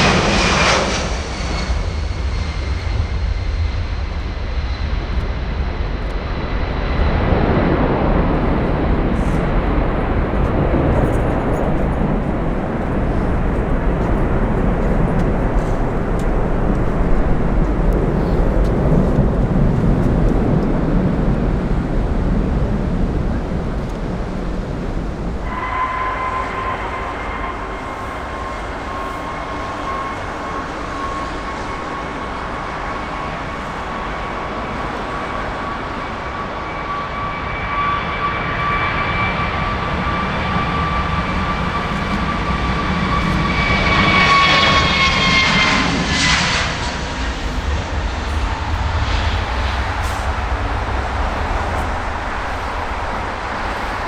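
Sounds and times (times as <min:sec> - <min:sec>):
jet engines roaring: 0:00.0 - 0:54.0
steady high whine: 0:00.0 - 0:54.0.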